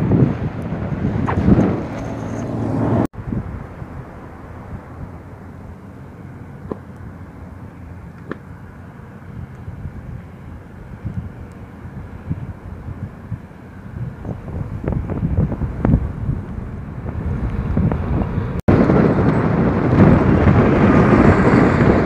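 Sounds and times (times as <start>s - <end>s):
low wind rumble: 0.0s - 22.0s
wind buffeting microphone: 0.0s - 22.0s.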